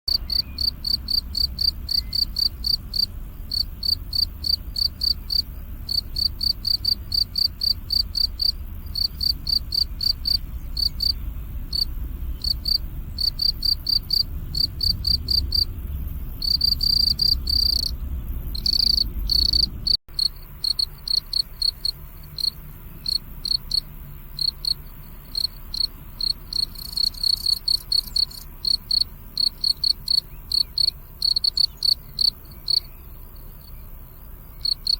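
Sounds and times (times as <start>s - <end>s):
crickets chirping: 0.1s - 34.9s
low background rumble: 0.1s - 34.9s.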